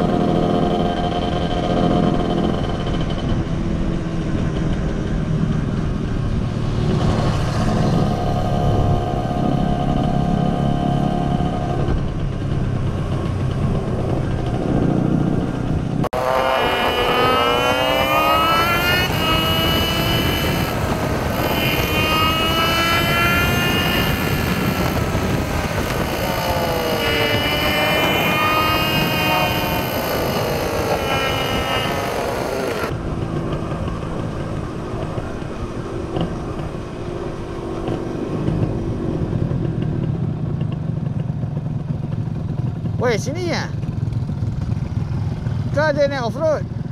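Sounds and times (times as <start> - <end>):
wind noise: 0.0 - 45.8
motorcycle engine droning: 0.0 - 46.9
motorcycle engine revving: 0.0 - 46.9.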